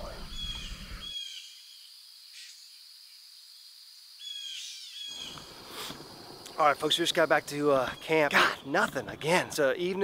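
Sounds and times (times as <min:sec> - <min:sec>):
high-pitched hiss: 0:00.0 - 0:08.8.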